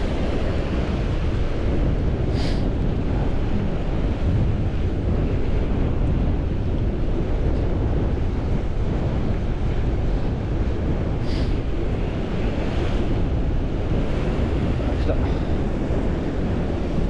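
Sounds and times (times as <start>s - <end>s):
surf washing against rocks: 0.0s - 17.0s
wind buffeting microphone: 0.0s - 17.0s.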